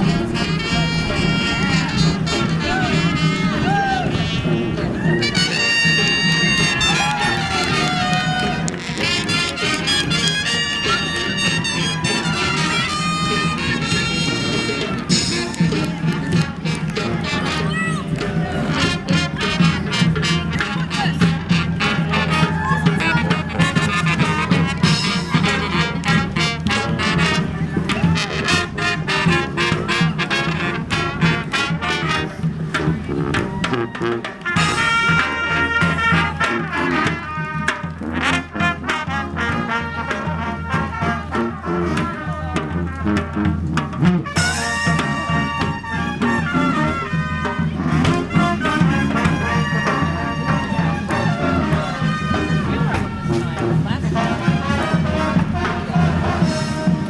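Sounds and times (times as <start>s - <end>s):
brass band playing: 0.0s - 57.0s
drum strokes: 0.0s - 57.0s.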